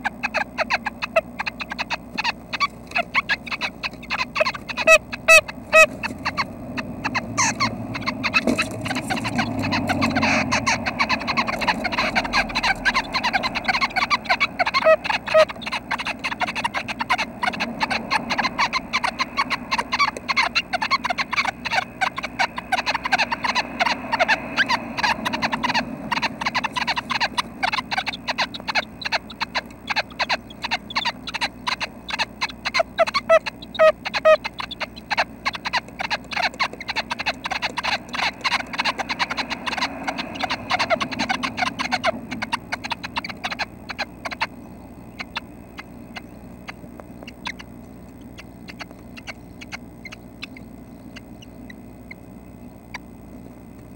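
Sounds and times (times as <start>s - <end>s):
nestlings clicking calls: 0.0s - 53.9s.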